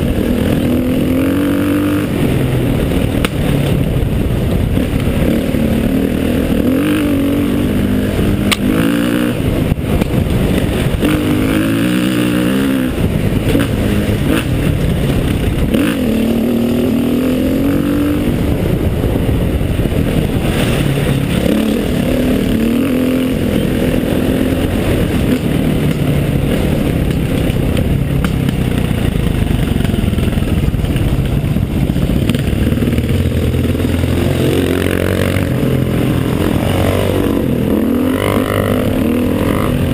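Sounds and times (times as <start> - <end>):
motorcycle engine revving uphill: 0.0 - 39.9.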